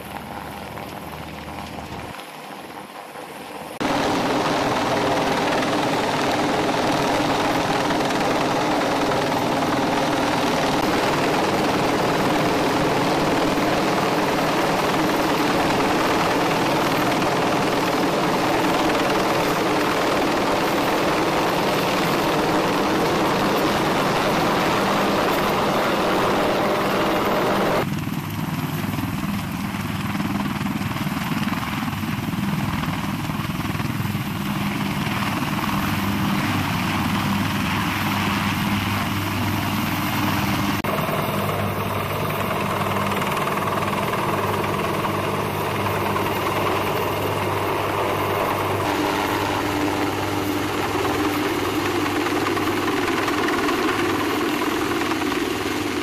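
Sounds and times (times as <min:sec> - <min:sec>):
helicopter rotor beating: 0:00.0 - 0:56.0
turbines running: 0:03.8 - 0:27.9, 0:33.7 - 0:56.0.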